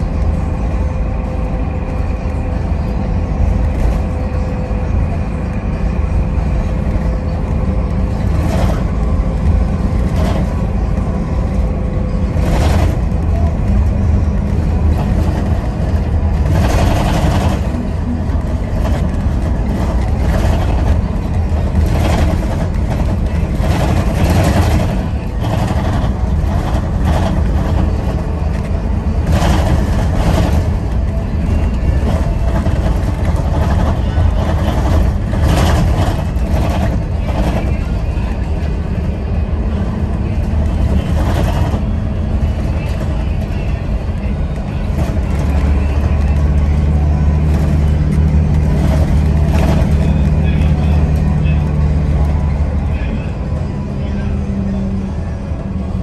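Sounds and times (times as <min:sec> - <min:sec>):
heavy vehicle engine rumbling: 0:00.0 - 0:56.0.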